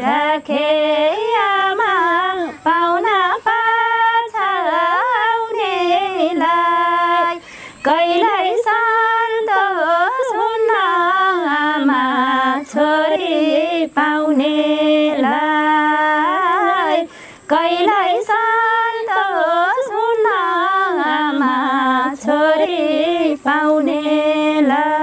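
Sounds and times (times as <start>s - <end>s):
women singing unaccompanied: 0.0s - 25.0s.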